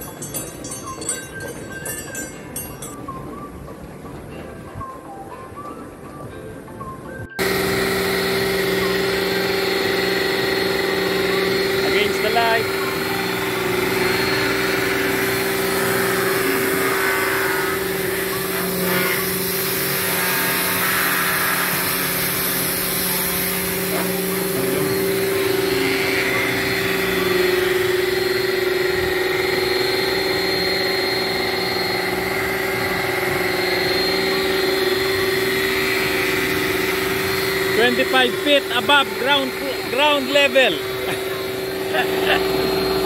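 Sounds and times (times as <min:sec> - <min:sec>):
motor humming: 0:07.4 - 0:43.0.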